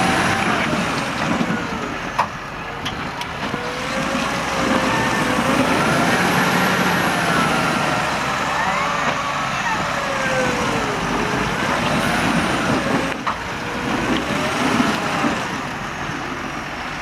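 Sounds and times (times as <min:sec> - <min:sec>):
tractor engine under heavy load: 0:00.0 - 0:17.0.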